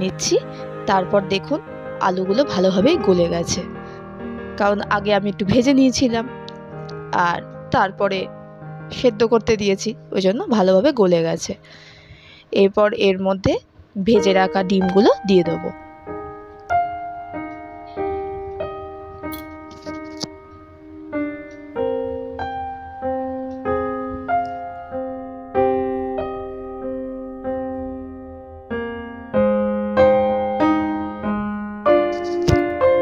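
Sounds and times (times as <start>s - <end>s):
slow keyboard melody: 0.0s - 12.6s, 13.6s - 33.0s.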